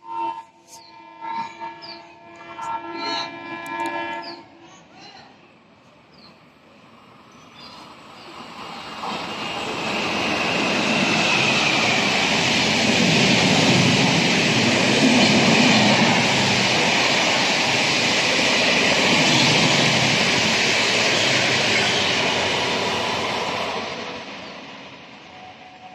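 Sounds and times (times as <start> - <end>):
train passing at speed: 0.0 - 25.9.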